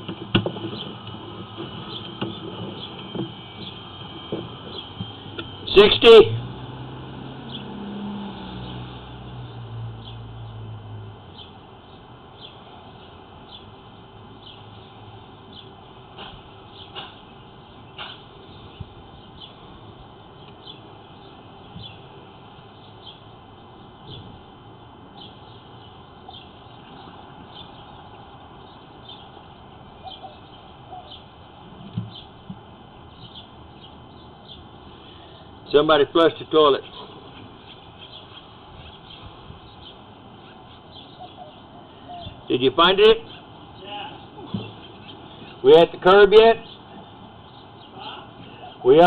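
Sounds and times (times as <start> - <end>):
bird chirping: 1.8 - 6.0, 7.4 - 7.9, 8.5 - 10.7, 11.3 - 16.0, 16.6 - 49.0.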